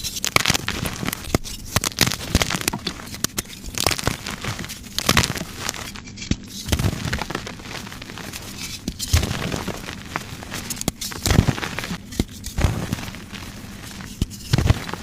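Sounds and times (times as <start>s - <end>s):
chalk blocks crushed and crunching: 0.2s - 15.0s.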